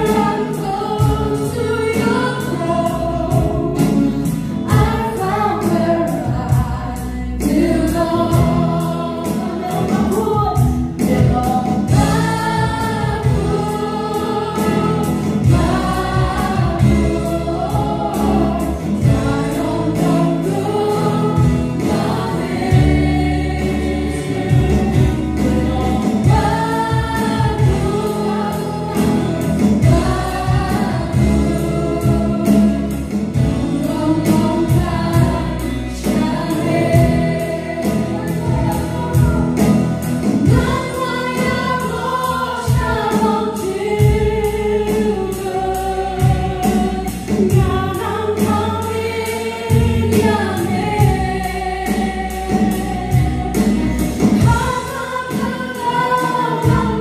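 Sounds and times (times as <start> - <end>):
band with drums and guitars: 0.0 - 57.0
group of voices singing: 0.0 - 57.0.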